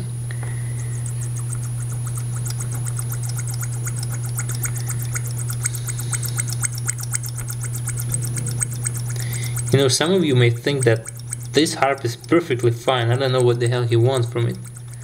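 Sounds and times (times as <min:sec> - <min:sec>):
steady low hum: 0:00.0 - 0:15.0
embossing tool strokes on metal: 0:00.8 - 0:15.0.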